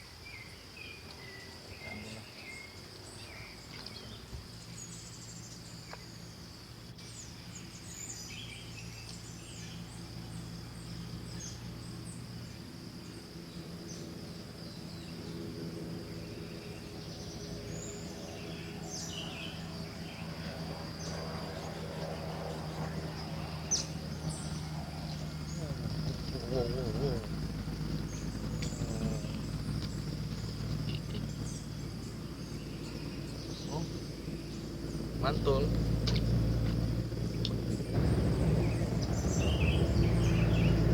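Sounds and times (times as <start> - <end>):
birds chirping: 0.0 - 40.9
insects droning: 0.0 - 40.9
low steady hum: 0.0 - 40.9.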